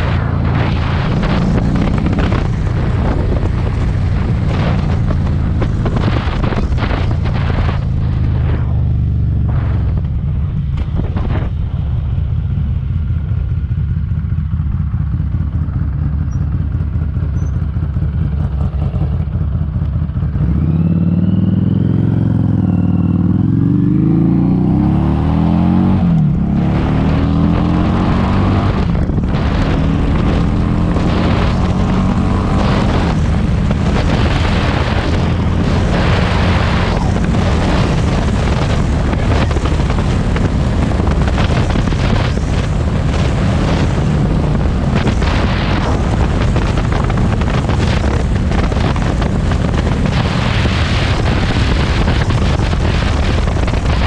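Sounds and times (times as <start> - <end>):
motorcycle engine revving: 0.0 - 54.0
wind noise on microphone: 0.0 - 54.0.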